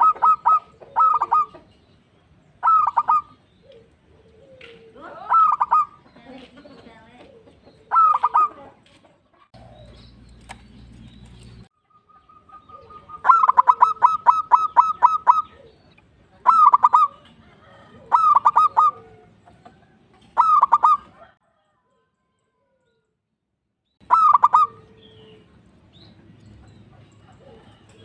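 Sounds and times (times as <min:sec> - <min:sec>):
dove cooing: 0:00.0 - 0:01.8, 0:02.4 - 0:10.4, 0:11.1 - 0:21.4, 0:24.0 - 0:25.6, 0:26.6 - 0:28.0.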